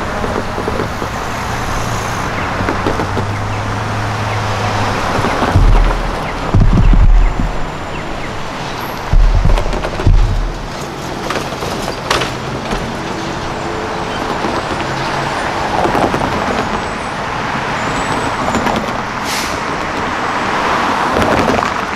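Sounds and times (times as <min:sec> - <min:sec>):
cars passing over crossing: 0:00.0 - 0:21.9.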